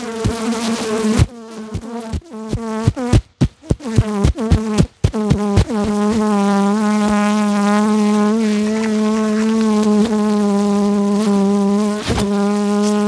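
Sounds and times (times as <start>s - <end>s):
bee buzzing: 0.0s - 13.0s.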